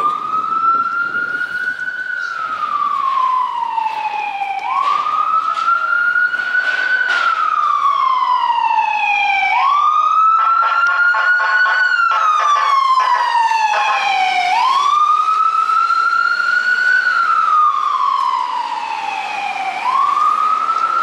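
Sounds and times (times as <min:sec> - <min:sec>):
ambulance siren wailing: 0:00.0 - 0:21.0.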